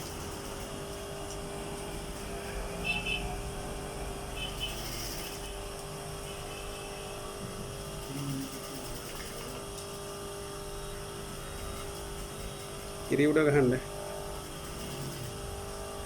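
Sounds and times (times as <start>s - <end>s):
sewing machine humming: 0.0s - 5.8s, 6.5s - 16.0s.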